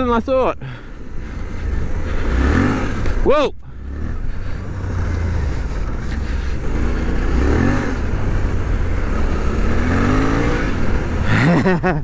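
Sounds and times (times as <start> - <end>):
motorcycle engine revving: 0.7 - 12.0.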